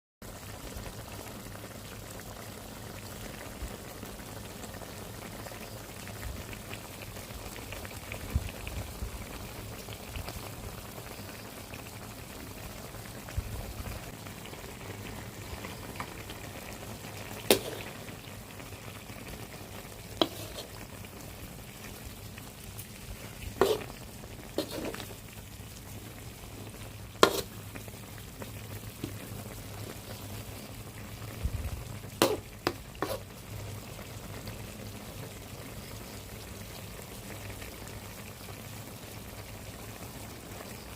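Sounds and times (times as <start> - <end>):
food sizzling and bubbling in pot: 0.2 - 40.9.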